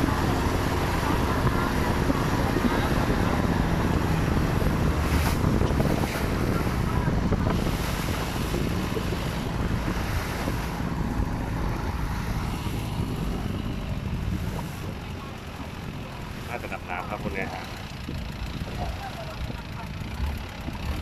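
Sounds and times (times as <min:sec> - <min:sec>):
boat engine running: 0:00.0 - 0:21.0
water rushing along hull: 0:00.0 - 0:21.0
wind buffeting microphone: 0:00.0 - 0:21.0.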